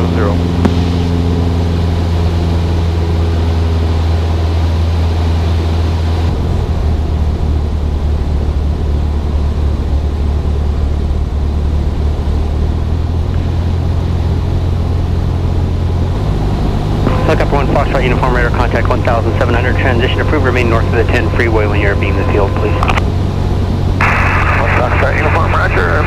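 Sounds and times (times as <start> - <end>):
airplane engine and propeller drone: 0.0 - 26.0.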